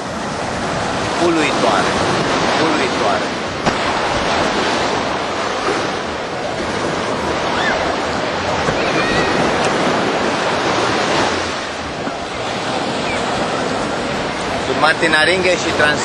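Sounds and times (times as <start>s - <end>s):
surf washing onto sandy beach: 0.0s - 16.0s
wind on microphone: 0.0s - 16.0s.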